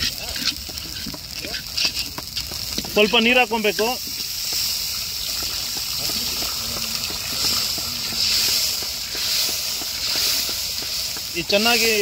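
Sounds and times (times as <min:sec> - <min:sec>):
water hissing in hot pan: 0:00.0 - 0:12.0.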